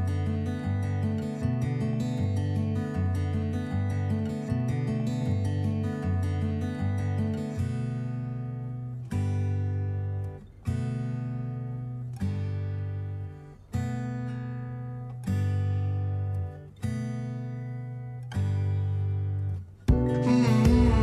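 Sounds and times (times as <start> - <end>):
acoustic guitar chords strummed: 0.0 - 21.0.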